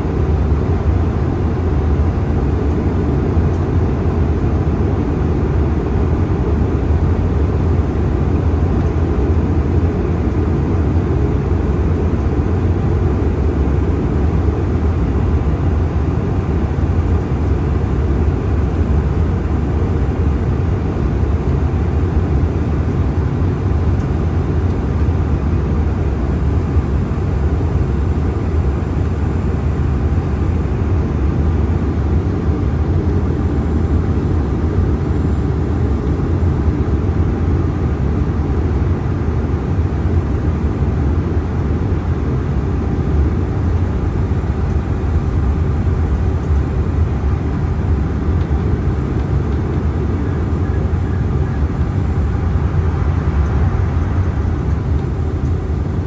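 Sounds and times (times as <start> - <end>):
jet cabin rumble: 0.0 - 56.0.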